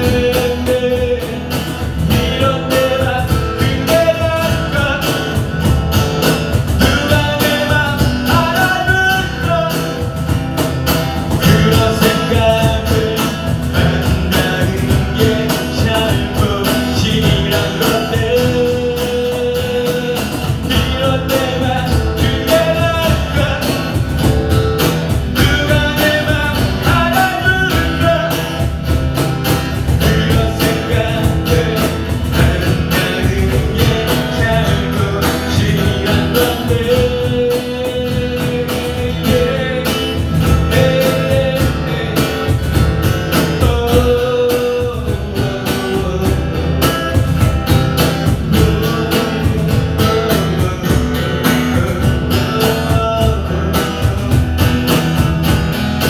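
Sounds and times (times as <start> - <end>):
acoustic guitar playing: 0.0 - 56.0
cajon beat: 0.0 - 56.0.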